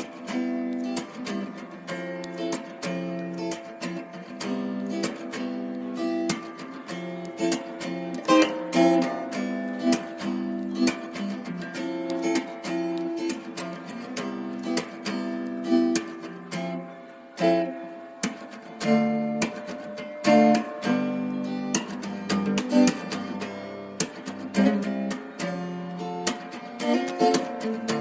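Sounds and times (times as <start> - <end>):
acoustic guitar music: 0.0 - 28.0.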